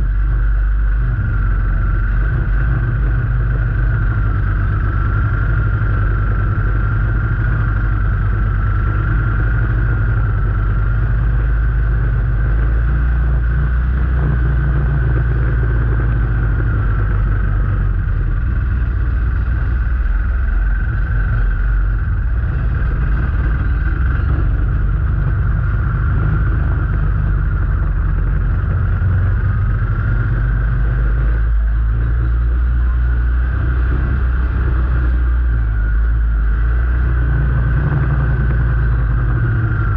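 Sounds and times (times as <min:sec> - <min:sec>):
thin wavering whine: 0:00.0 - 0:39.9
vehicle engine rumbling: 0:00.0 - 0:39.9.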